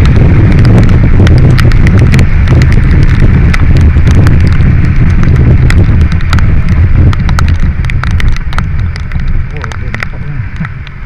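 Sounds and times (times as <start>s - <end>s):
heavy wind buffeting: 0.0s - 11.0s
motorcycle low rumble: 0.0s - 11.0s
raindrops ticking on camera: 0.0s - 11.0s.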